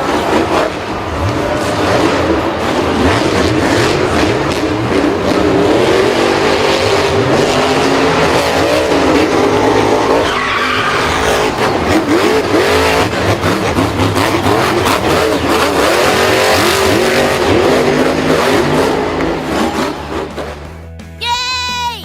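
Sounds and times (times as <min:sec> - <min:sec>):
tyres skidding and squealing: 0:00.0 - 0:21.0
vehicle engines revving: 0:00.0 - 0:21.2.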